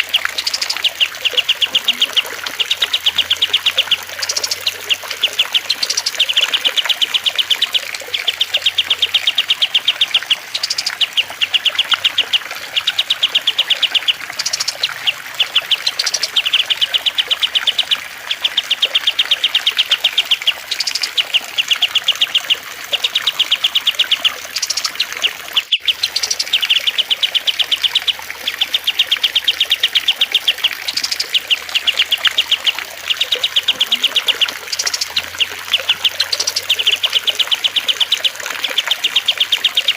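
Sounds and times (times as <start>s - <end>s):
songbird high trill: 0.0s - 39.9s
trickling water: 0.0s - 39.9s.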